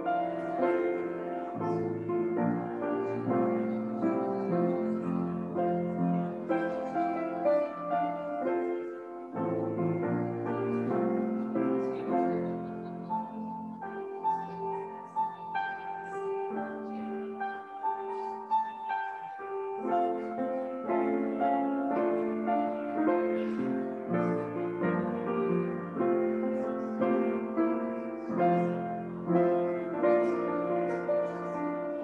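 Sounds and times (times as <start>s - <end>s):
grand piano playing: 0.0s - 32.0s.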